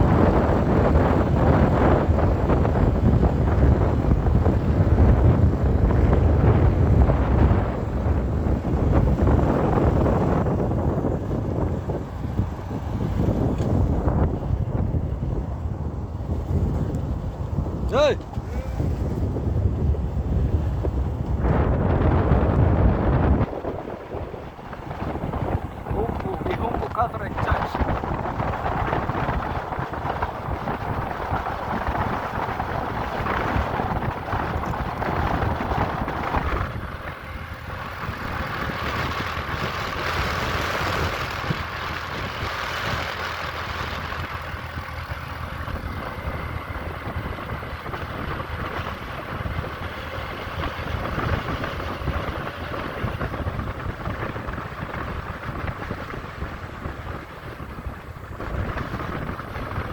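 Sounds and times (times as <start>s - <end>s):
motorcycle engine: 0.0s - 59.9s
road noise: 0.0s - 59.9s.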